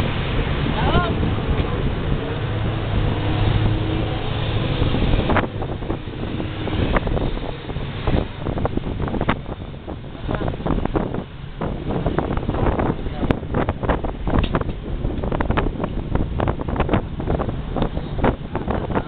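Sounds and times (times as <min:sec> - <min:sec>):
boat motor drone: 0:00.0 - 0:19.0
wind buffeting the microphone: 0:00.0 - 0:19.0.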